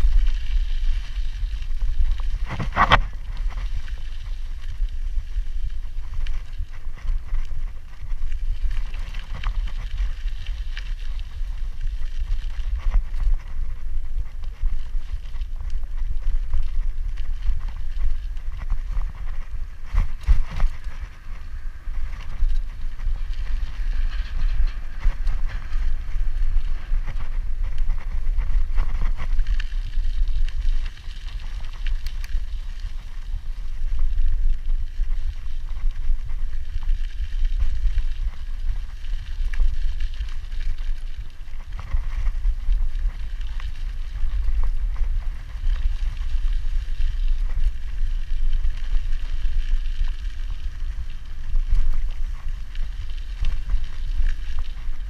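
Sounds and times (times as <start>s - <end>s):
wind rumbling on microphone: 0.0s - 55.0s.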